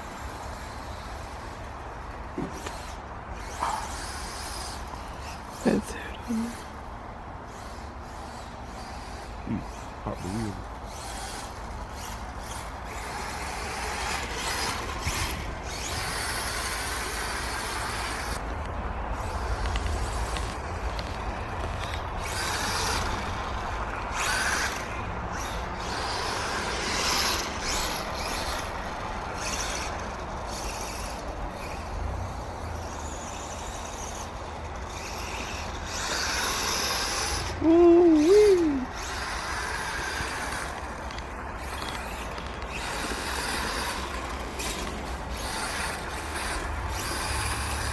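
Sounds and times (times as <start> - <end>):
electric rc dirt bike motor surging: 0.0 - 6.8, 7.4 - 47.9.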